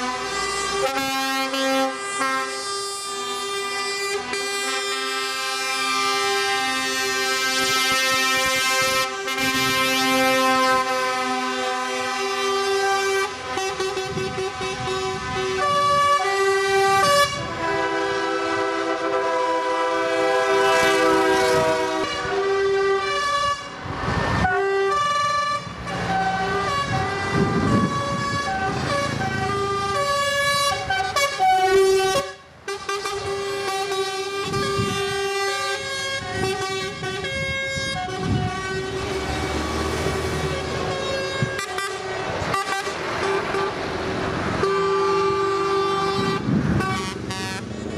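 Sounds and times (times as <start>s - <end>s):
truck air horns blowing: 0.0s - 47.9s.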